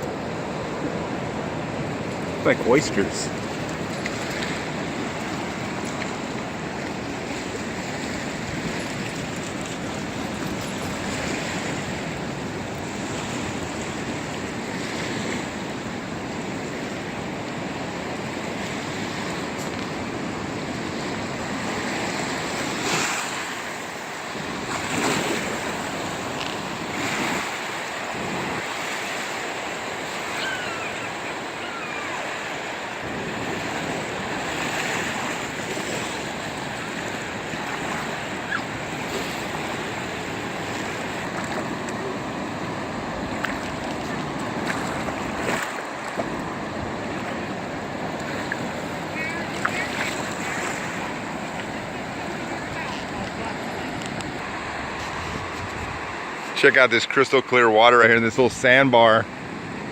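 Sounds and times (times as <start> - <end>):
ocean waves washing onto beach: 0.0 - 59.9.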